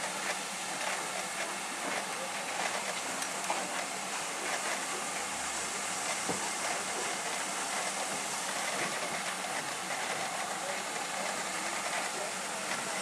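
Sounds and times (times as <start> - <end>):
hiss of escaping steam: 0.0 - 13.0.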